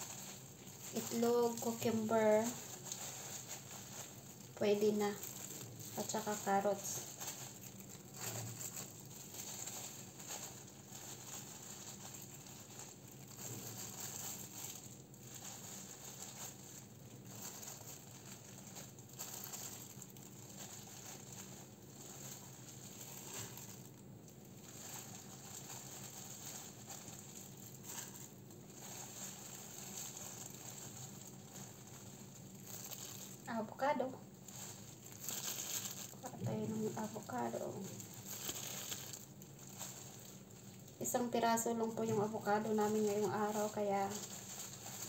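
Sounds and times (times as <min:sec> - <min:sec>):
faint steady hum: 0:00.0 - 0:45.0
plastic gloves crinkling: 0:00.0 - 0:45.0.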